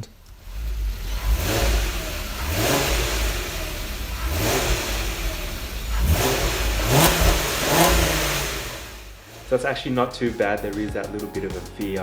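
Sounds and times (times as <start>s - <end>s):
engine revving: 0.0s - 10.6s.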